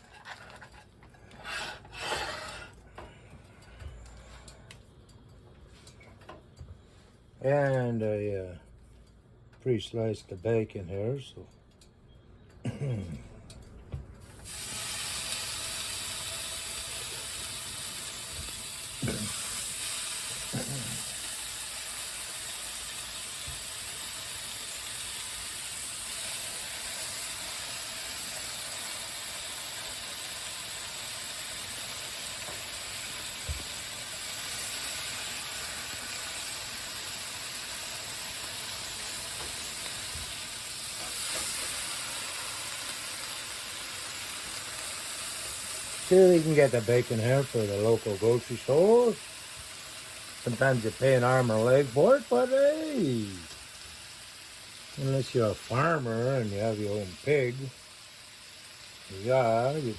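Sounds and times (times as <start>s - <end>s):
bacon sizzling in a frying pan: 0.0s - 2.7s, 14.2s - 59.9s.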